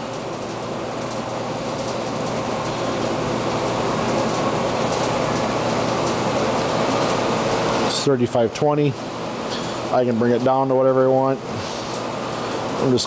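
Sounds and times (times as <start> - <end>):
blower rushing air noise: 0.0 - 13.0.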